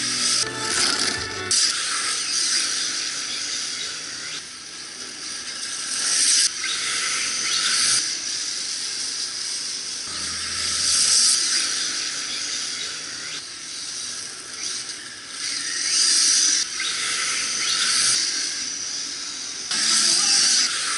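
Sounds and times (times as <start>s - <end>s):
rc car high hissing whine: 0.0s - 20.9s.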